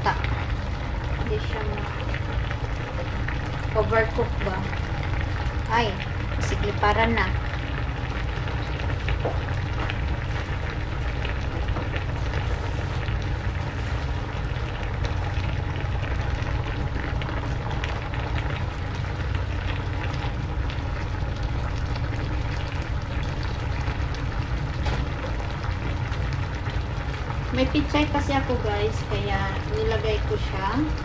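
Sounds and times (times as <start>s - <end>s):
low rumble: 0.0s - 31.0s
pan simmering and sizzling: 0.0s - 31.0s.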